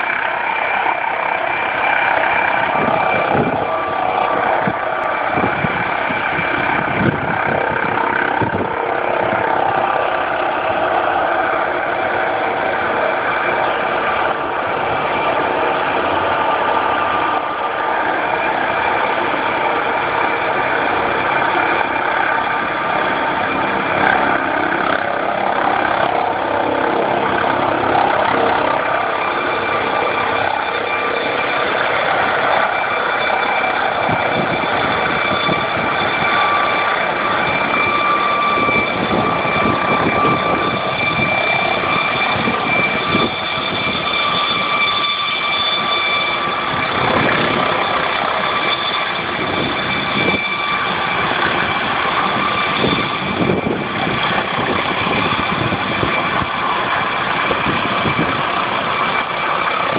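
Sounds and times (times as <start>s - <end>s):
helicopter engine and rotor noise: 0.0s - 59.9s
helicopter turbine whine: 0.0s - 59.9s.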